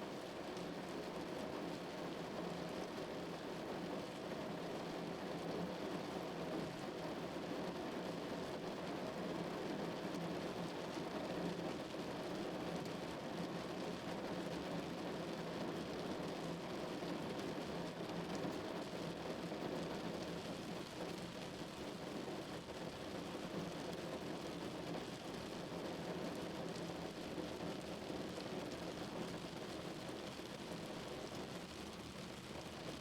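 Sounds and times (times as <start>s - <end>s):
heavy rain on car roof: 0.1s - 33.0s.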